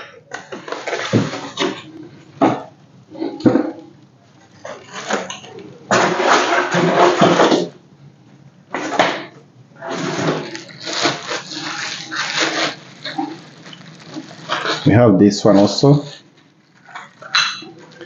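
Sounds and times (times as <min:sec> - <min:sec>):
packaging rustling and crinkling: 0:00.3 - 0:07.8, 0:09.8 - 0:18.0.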